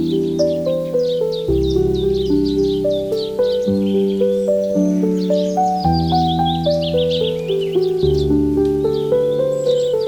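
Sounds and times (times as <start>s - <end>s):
small birds chirping: 0.0s - 10.0s
soft piano melody: 0.0s - 10.0s.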